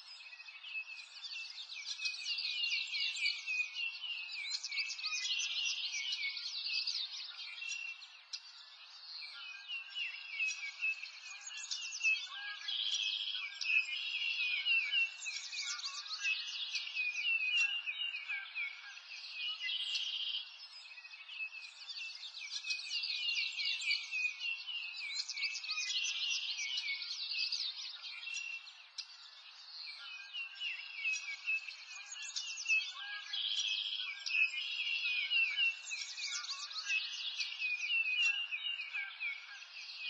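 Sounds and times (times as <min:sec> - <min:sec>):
birds chirping and singing: 0:00.0 - 0:40.0.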